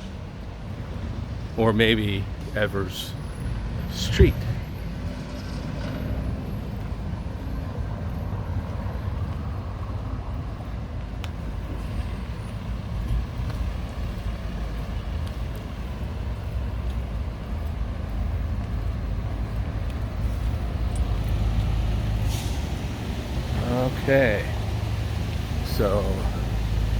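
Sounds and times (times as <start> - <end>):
road traffic rumble: 0.0 - 26.9.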